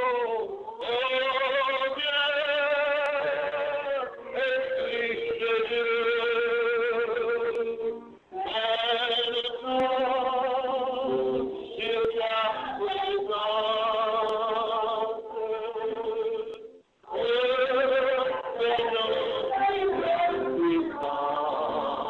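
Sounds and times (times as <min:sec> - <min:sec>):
man singing slow song: 0:00.0 - 0:22.0.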